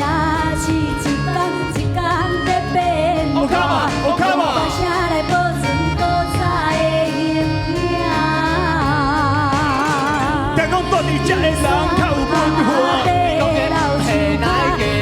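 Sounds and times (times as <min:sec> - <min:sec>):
low musical accompaniment: 0:00.0 - 0:15.0
opera singing with sliding pitch: 0:00.0 - 0:15.0.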